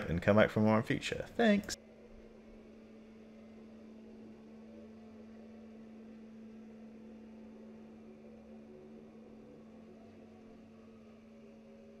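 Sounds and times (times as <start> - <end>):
robot vacuum humming: 1.8 - 12.0.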